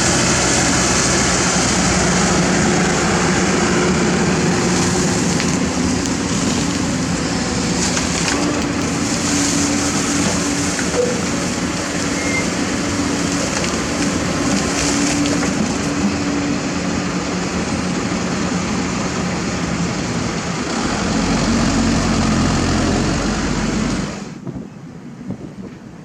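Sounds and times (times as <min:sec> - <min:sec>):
heavy machinery diesel engine running: 0:00.0 - 0:24.4.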